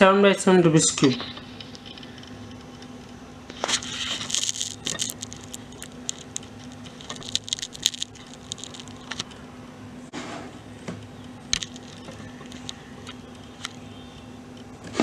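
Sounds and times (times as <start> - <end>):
plastic layers clicking into place: 1.2 - 9.4, 10.8 - 15.0
puzzle cube layers turning: 1.4 - 9.4, 11.0 - 15.0.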